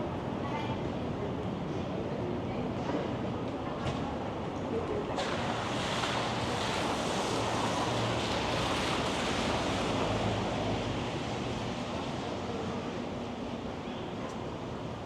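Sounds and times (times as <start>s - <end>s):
street traffic: 0.0s - 15.0s
wind: 0.0s - 15.0s.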